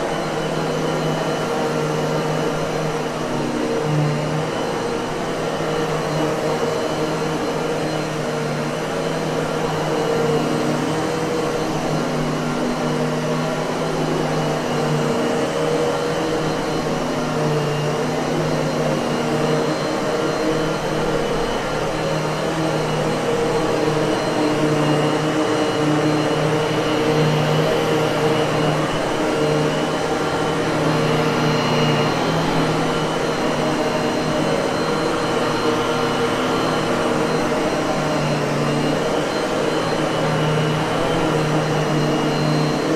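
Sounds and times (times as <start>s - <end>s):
vacuum cleaner motor whirring: 0.0s - 42.9s.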